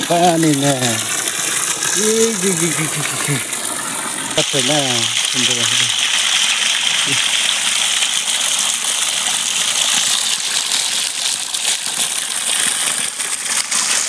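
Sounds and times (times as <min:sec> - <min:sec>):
water splashing onto rocks: 0:00.0 - 0:14.0.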